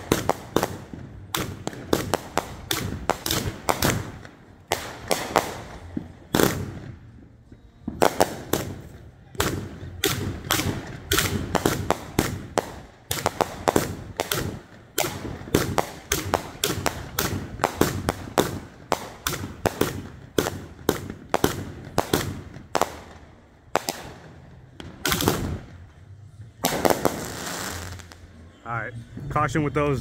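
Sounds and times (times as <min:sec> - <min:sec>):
fireworks banging and popping: 0:00.0 - 0:28.4.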